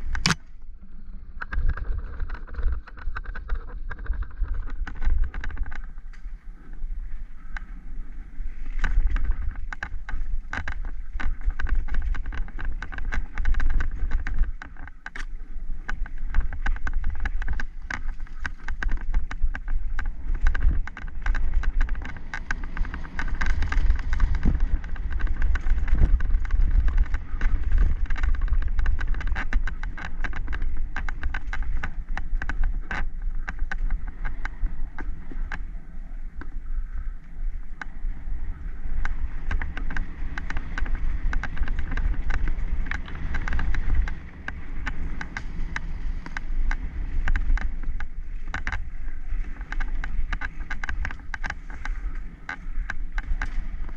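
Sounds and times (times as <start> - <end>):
bike rattling and knocking: 0.0 - 0.7, 1.4 - 6.4, 8.6 - 35.7, 37.6 - 53.9
bike tyres over dirt and roots: 0.0 - 53.9
low rumble of wind and vibration: 0.0 - 53.9.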